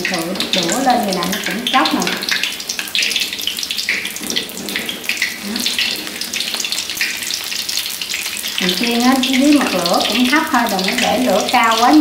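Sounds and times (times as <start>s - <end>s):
deep-frying sizzle in hot oil: 0.0s - 12.0s.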